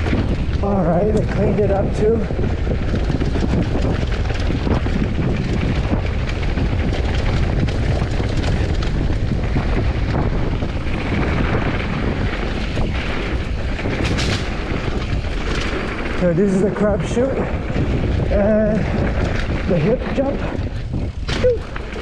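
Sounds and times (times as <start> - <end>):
bike rattles and knocks: 0.0 - 22.0
tyres rumbling on dirt: 0.0 - 22.0
wind buffeting microphone: 0.0 - 22.0.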